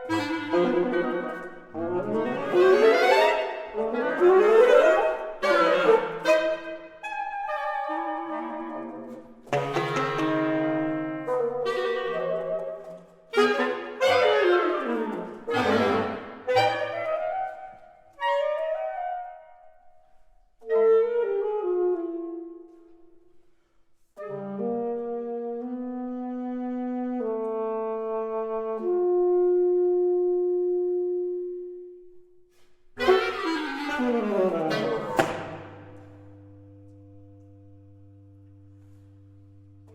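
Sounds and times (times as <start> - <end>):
reed quintet chamber music: 0.0 - 20.0, 20.6 - 23.6, 24.2 - 39.9.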